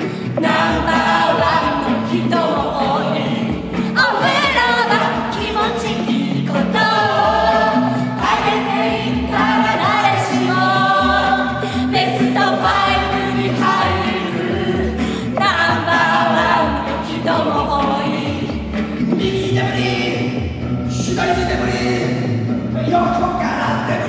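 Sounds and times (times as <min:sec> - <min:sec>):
group singing: 0:00.0 - 0:24.0
instrumental accompaniment: 0:00.0 - 0:24.0.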